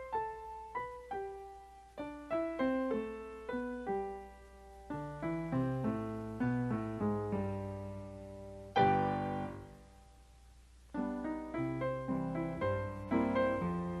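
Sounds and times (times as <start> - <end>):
piano melody: 0.0 - 10.3, 10.9 - 14.0.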